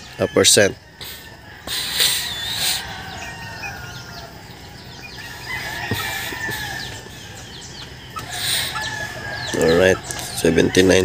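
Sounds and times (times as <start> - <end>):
rooster crowing: 0.0 - 7.6, 8.2 - 11.0
hens clucking: 0.0 - 11.0.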